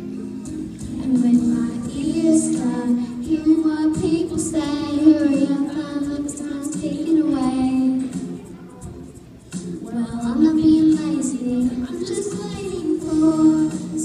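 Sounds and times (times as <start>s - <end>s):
girl singing into microphone: 0.8s - 9.0s, 9.8s - 14.0s.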